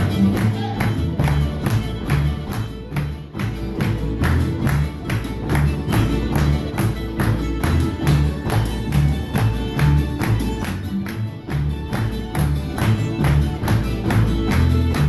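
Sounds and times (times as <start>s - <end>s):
fiddle: 0.0s - 15.0s
low bass line: 0.0s - 15.0s
string band playing: 0.0s - 15.0s.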